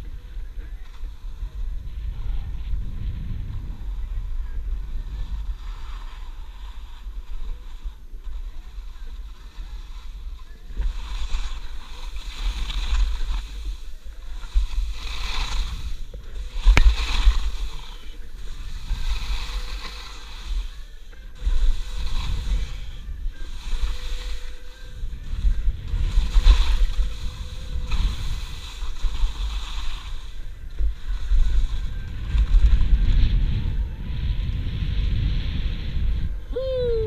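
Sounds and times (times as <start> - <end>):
skis scraping over snow: 0.0 - 36.4
wind noise on microphone: 0.0 - 37.0.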